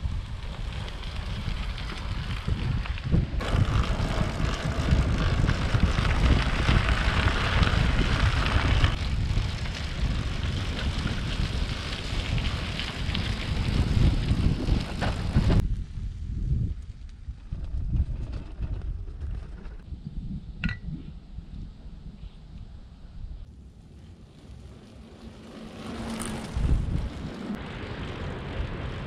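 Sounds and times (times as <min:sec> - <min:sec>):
bicycle tyres on gravel: 0:00.0 - 0:20.0, 0:23.4 - 0:29.0
wind rumbling on microphone: 0:00.0 - 0:29.0.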